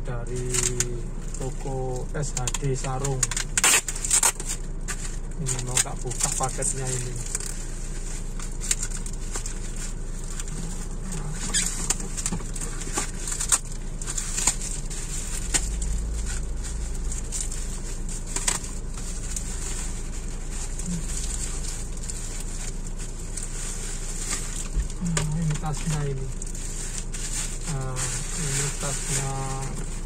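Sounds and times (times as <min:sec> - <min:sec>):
low steady hum: 0:00.0 - 0:30.0
plastic wrapping crinkling and tearing: 0:00.2 - 0:30.0.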